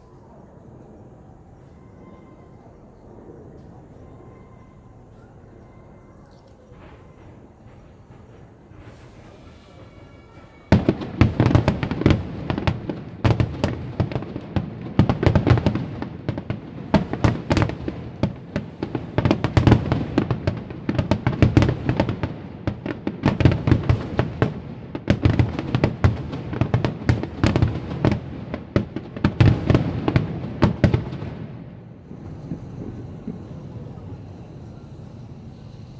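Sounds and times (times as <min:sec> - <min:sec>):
fireworks bursting: 0:06.6 - 0:35.9.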